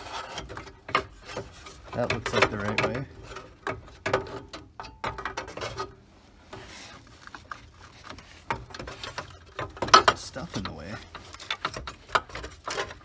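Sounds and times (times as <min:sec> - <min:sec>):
clicks and knocks of parts: 0:00.2 - 0:13.0.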